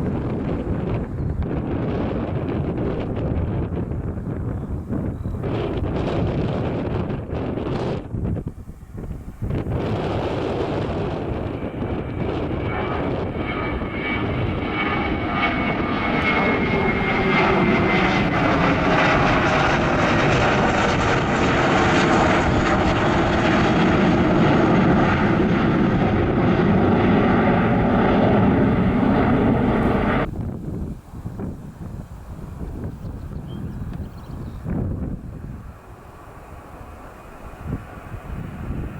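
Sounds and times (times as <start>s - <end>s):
airliner engines passing: 0.0s - 38.9s
wind buffeting microphone: 0.0s - 38.9s.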